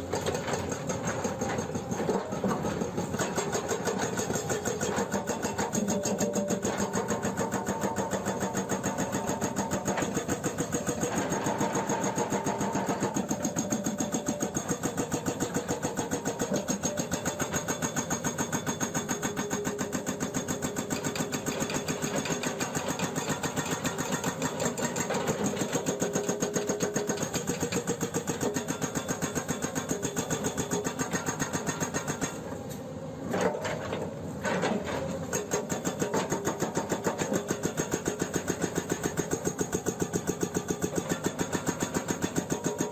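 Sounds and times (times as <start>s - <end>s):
hydraulic breaker hammering rock: 0.0s - 32.7s, 33.3s - 42.9s.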